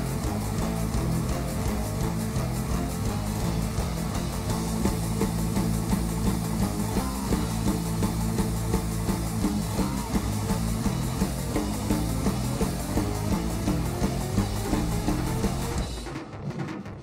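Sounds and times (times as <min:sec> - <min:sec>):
rock band playing instrumental: 0:00.0 - 0:16.9.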